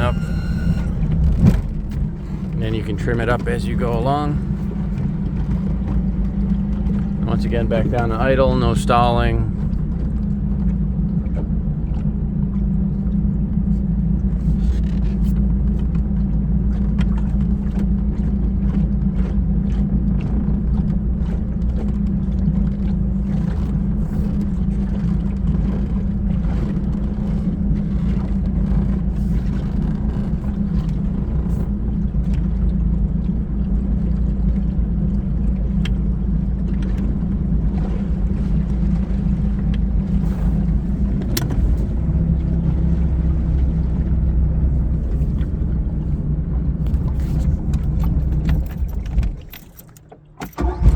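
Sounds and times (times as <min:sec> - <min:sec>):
boat engine idling: 0:00.0 - 0:50.9.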